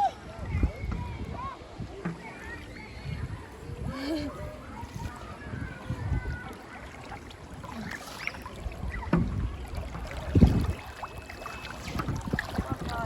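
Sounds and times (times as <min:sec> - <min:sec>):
water sloshing and splashing: 0:00.9 - 0:13.0.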